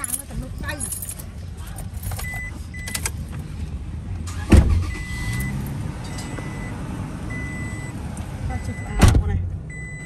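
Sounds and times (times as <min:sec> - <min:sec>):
motor traffic: 0:00.0 - 0:10.0.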